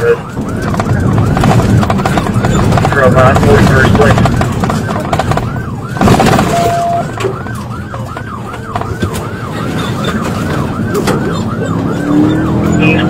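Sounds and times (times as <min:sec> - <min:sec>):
car engine and road noise: 0:00.0 - 0:13.0
police siren yelping: 0:00.0 - 0:13.0.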